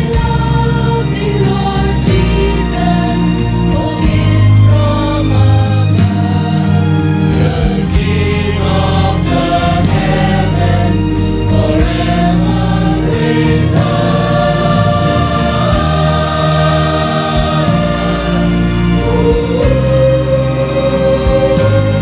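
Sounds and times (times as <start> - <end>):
choir singing: 0.0 - 22.0
musical accompaniment: 0.0 - 22.0.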